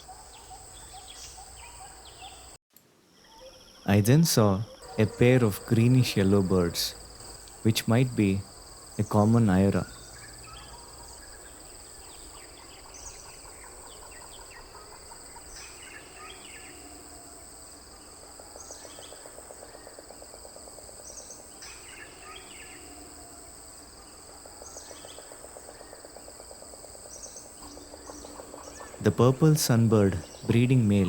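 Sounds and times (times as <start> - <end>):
bird calls: 0.0 - 2.6, 3.2 - 17.1, 17.8 - 23.2, 27.0 - 31.0
insects droning: 0.0 - 31.0.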